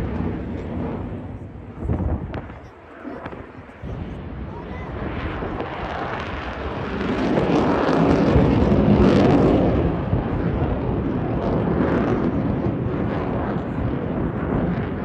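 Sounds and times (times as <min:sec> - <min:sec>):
jet engine rushing rumble: 0:00.0 - 0:15.0.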